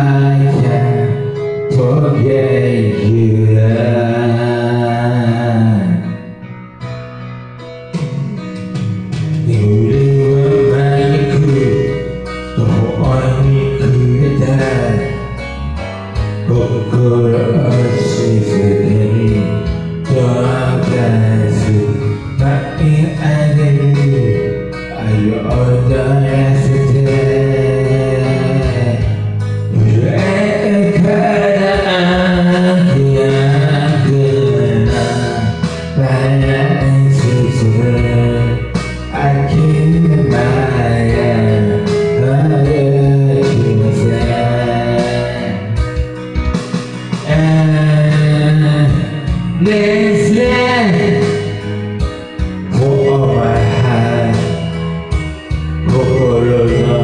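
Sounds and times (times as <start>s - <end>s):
man singing into microphone: 0.0s - 6.6s, 7.9s - 57.0s
karaoke backing track: 0.0s - 57.0s.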